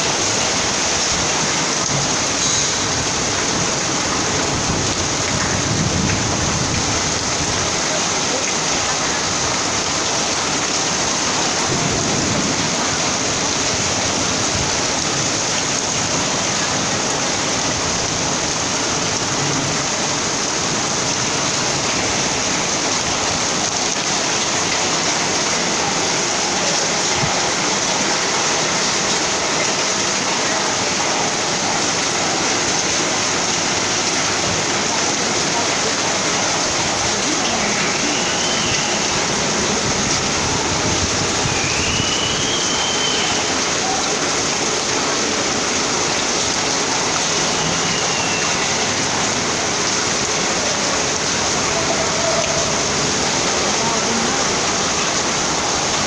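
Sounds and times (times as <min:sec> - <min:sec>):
heavy rain falling: 0:00.0 - 0:56.0
water running off: 0:00.0 - 0:56.0.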